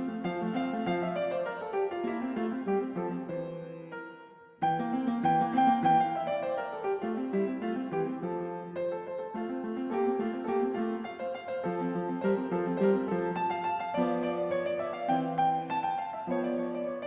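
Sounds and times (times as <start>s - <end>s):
instrumental piano music: 0.0s - 17.0s.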